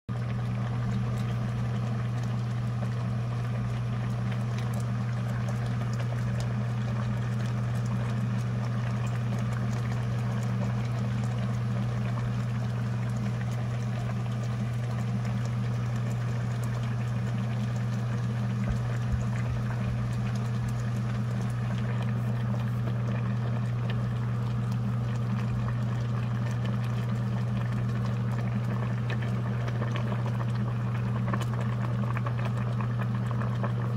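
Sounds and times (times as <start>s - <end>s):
soup boiling and bubbling: 0.1s - 33.9s
steady low hum: 0.1s - 33.9s.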